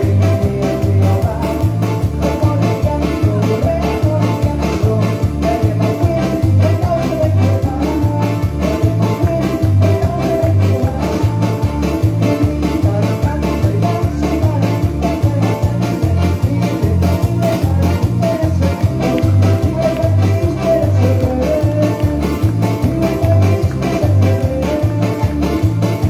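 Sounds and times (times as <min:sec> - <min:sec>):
worship band music: 0:00.0 - 0:26.0.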